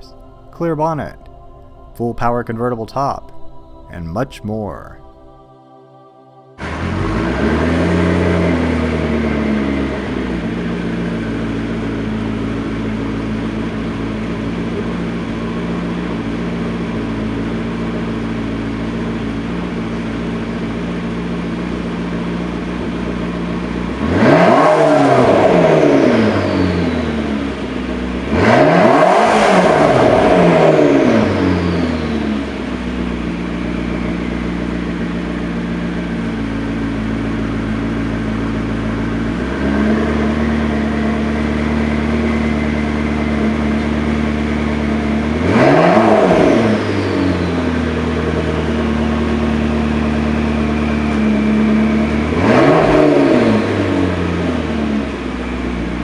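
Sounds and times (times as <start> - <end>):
sports car engine idling and revving: 6.6 - 56.0.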